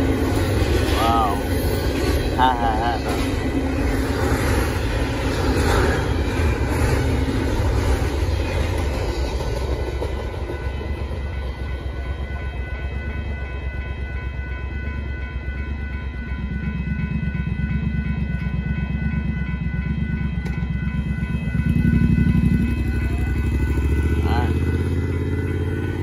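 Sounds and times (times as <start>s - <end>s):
crossing warning bell ringing: 0.0s - 26.0s
freight train wheels rumbling: 0.0s - 26.0s.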